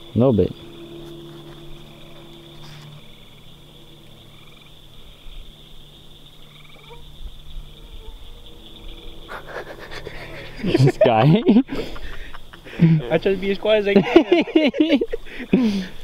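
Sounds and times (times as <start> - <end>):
frogs croaking: 0.0 - 16.0
insects trilling: 0.0 - 16.0.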